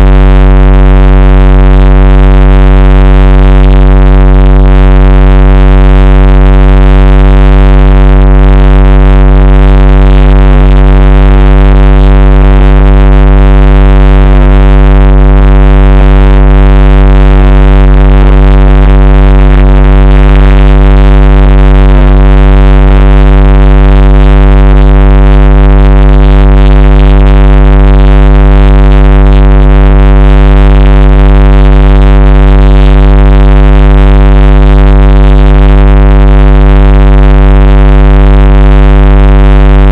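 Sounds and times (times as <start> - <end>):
deep electronic drone: 0.0 - 39.9.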